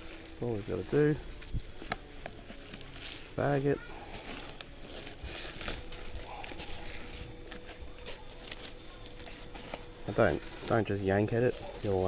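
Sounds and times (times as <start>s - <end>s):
bag crinkling and rustling: 0.0s - 12.0s.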